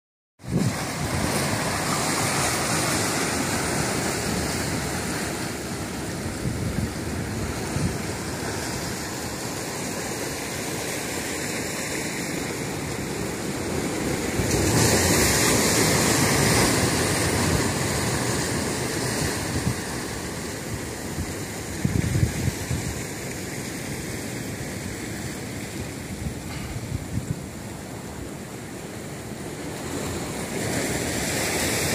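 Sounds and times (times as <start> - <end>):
surf washing over rocks: 0.4 - 31.9.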